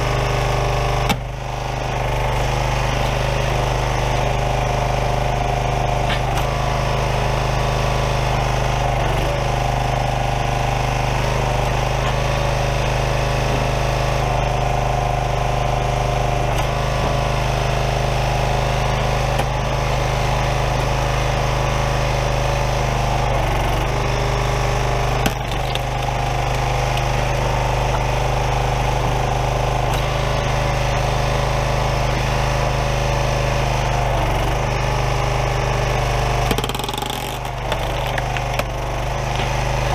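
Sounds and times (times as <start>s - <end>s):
hydraulic ram splitting wood: 0.0s - 39.9s
small gas engine running: 0.0s - 39.9s.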